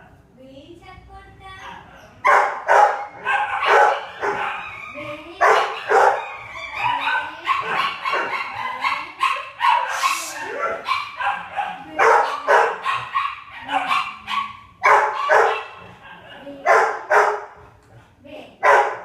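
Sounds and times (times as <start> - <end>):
dogs barking: 1.5 - 19.0
dogs yipping and whimpering: 1.6 - 17.4.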